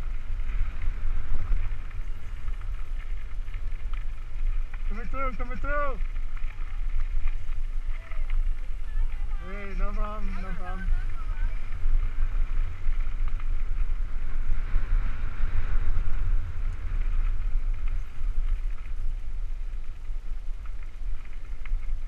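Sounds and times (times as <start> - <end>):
bike tyres rolling on gravel: 0.0 - 22.0
wind buffeting microphone: 0.0 - 22.0.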